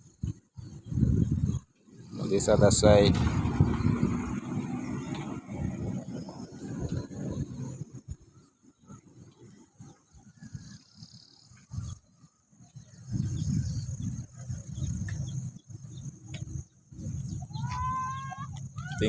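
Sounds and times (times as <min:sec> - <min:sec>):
low rumbling in gusts: 0:00.0 - 0:19.0.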